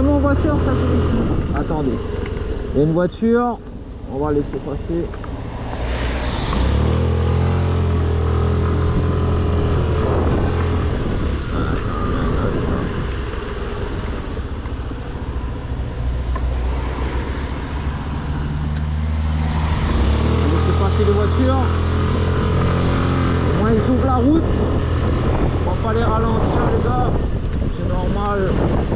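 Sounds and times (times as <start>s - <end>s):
wind and road noise: 0.0s - 28.9s.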